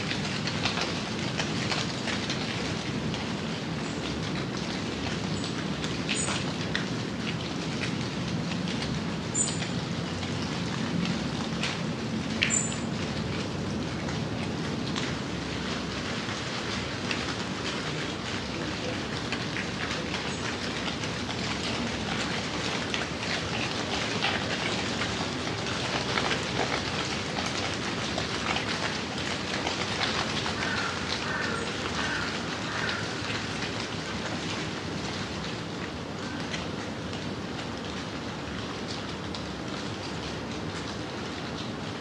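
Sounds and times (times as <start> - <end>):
rain drops ticking on hard surfaces: 0.0 - 42.0.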